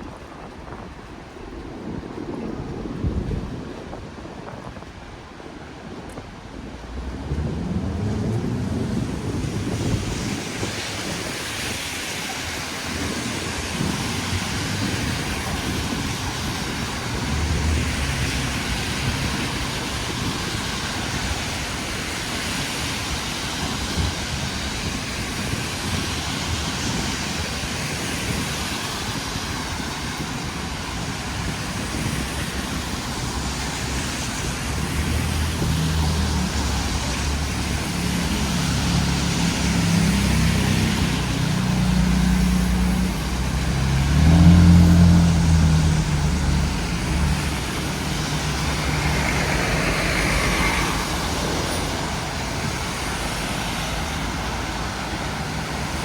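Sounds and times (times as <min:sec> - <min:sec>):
passing vehicle rumble: 0:00.0 - 0:56.0
rain hissing on street: 0:00.0 - 0:56.0
traffic rumbling: 0:00.0 - 0:56.0.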